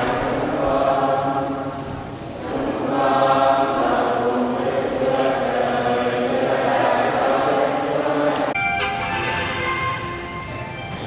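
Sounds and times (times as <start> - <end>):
choir singing a hymn: 0.0 - 10.2.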